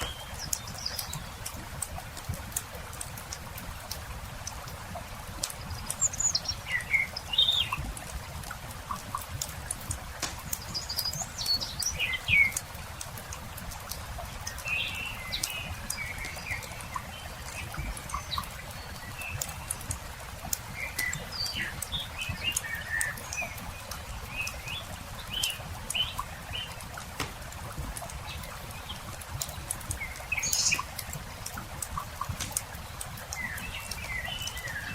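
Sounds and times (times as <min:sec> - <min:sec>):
campfire crackling and popping: 0:00.0 - 0:34.9
small birds chirping and trilling: 0:00.0 - 0:34.9.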